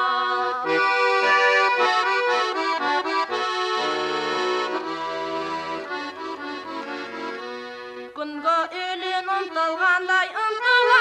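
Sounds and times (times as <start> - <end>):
accordion melody: 0.0 - 11.0.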